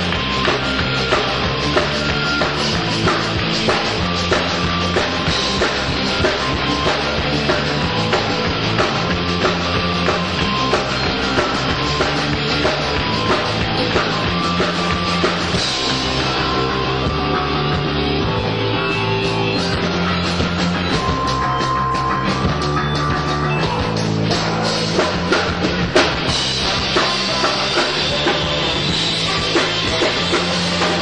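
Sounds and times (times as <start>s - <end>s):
drum kit beat: 0.0s - 31.0s
heavy rock band playing: 0.0s - 31.0s.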